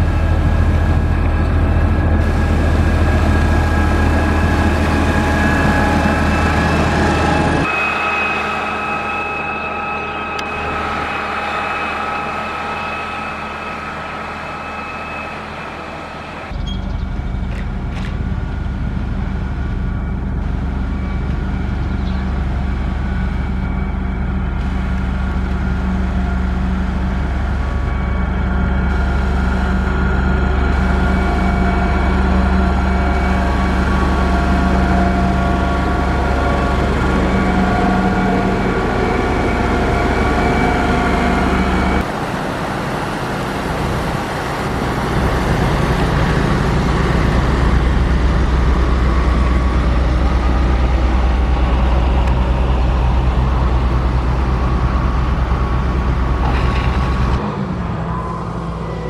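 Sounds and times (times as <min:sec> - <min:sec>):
heavy machine engine running: 0:00.0 - 0:59.0.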